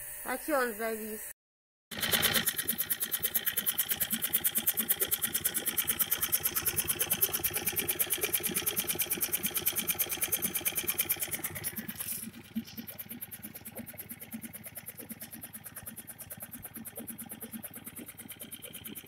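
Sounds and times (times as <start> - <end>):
small motor running pulsing: 0.0 - 19.0.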